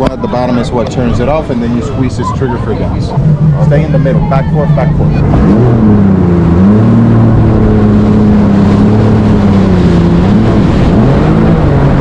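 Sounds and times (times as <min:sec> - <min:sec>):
jet ski engine revving: 0:00.0 - 0:12.0.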